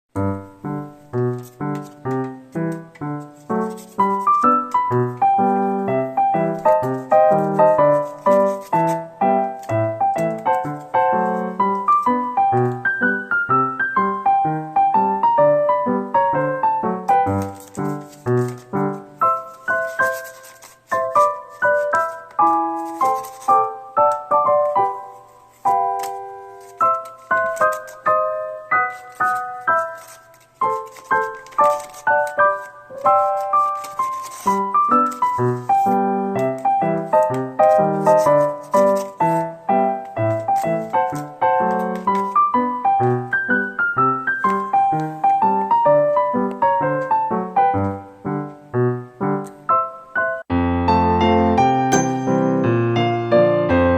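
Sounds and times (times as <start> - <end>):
light piano melody: 0.1 - 53.9.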